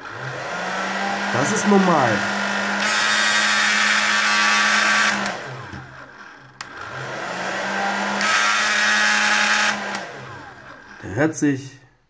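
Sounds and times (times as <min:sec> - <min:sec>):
hair dryer running: 0:00.0 - 0:11.2.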